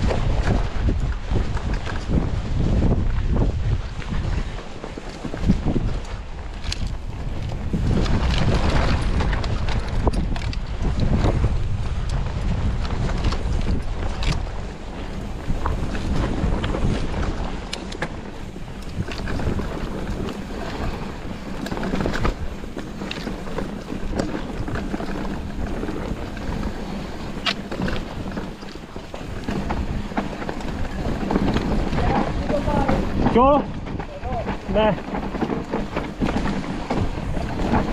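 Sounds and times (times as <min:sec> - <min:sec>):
bike knocking and rattling: 0:00.0 - 0:37.9
bike tyre noise: 0:00.0 - 0:37.9
wind rushing over microphone: 0:00.0 - 0:37.9.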